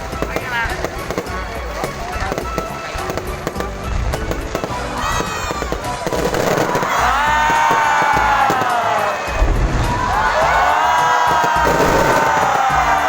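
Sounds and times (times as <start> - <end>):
fireworks crackling and popping: 0.0 - 13.0
music playing: 0.0 - 13.0.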